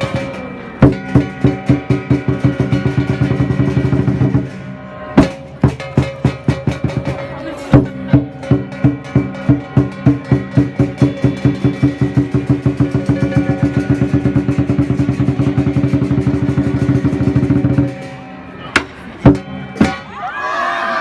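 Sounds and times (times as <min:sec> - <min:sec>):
large drum beating: 0:00.0 - 0:20.1
cymbals ringing: 0:00.0 - 0:20.2.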